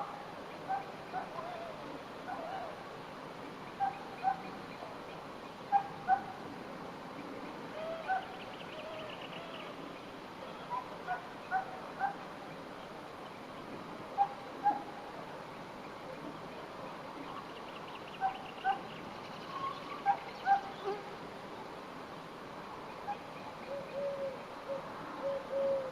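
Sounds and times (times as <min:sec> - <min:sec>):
faint outdoor background: 0:00.0 - 0:25.9.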